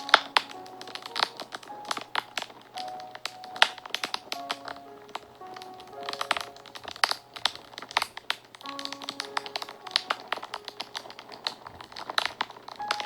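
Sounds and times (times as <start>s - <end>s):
soft music with held notes: 0.0s - 13.0s
wood fire crackling: 0.0s - 13.0s.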